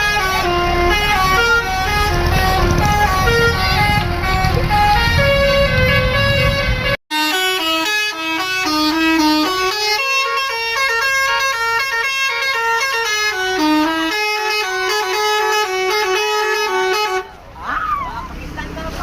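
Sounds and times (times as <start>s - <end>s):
bus air horn playing tune: 0.0s - 17.4s.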